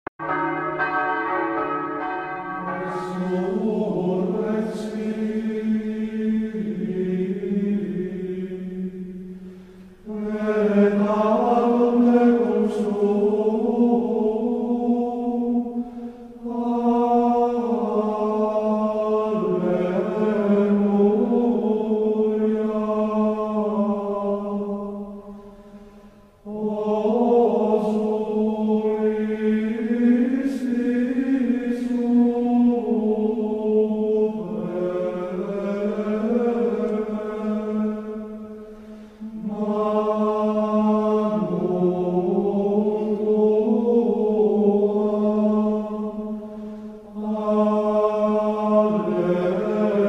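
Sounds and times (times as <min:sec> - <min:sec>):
voices singing slow chant: 0:01.4 - 0:50.0.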